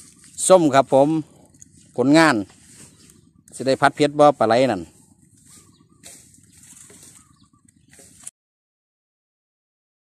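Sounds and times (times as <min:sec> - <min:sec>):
distant bird calls: 0:00.0 - 0:08.3
faint outdoor ambience: 0:00.0 - 0:08.3.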